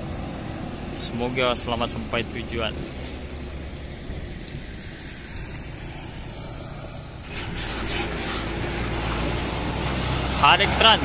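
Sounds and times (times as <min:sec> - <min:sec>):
diesel bus engine: 0:00.0 - 0:11.0.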